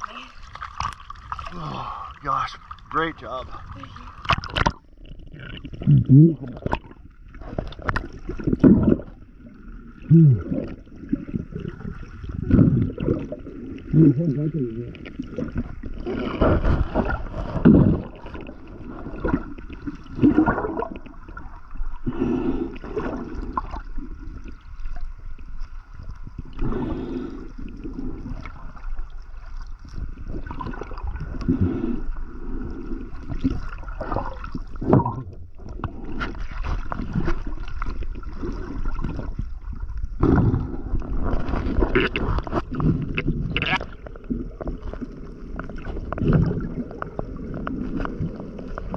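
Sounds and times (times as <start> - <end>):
muffled underwater gurgling: 1.3 - 24.7, 29.9 - 48.9.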